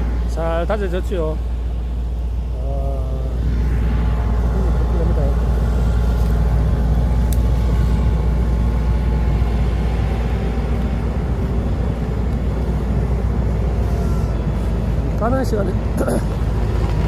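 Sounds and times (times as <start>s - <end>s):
road roller engine rumbling: 0.0s - 17.0s.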